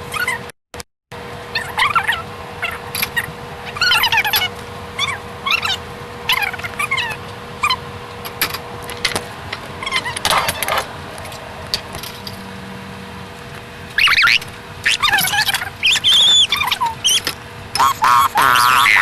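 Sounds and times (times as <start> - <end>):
faint steady hum: 1.2 - 19.0.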